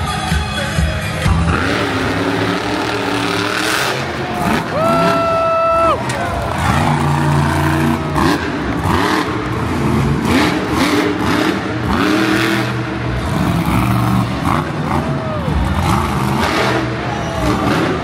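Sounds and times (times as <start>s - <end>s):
monster truck engine revving: 1.2s - 18.0s.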